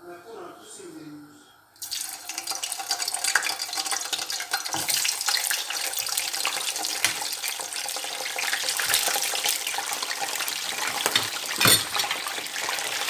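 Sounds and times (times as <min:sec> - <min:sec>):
meat sizzling in hot oil: 0:01.8 - 0:13.0
oil spitting crackles: 0:01.8 - 0:13.0.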